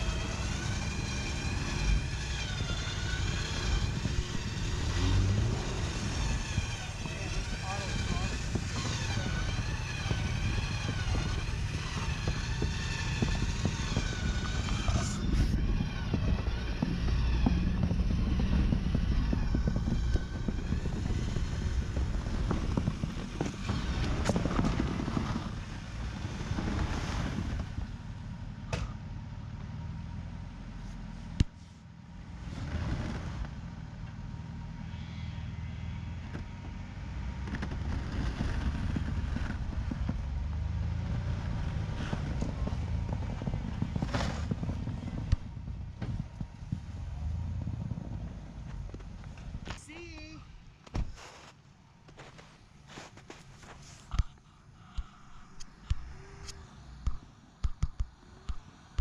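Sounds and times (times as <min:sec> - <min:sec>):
truck engines running hard: 0:00.0 - 0:49.9, 0:52.0 - 0:59.0.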